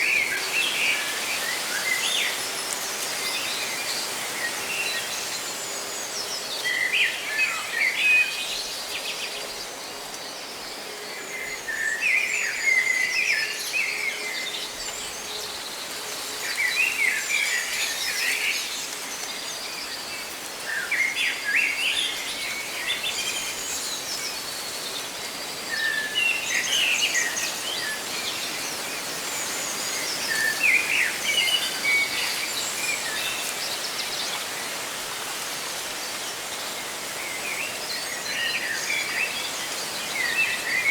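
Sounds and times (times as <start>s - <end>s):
rustling leaves: 0.0s - 40.9s.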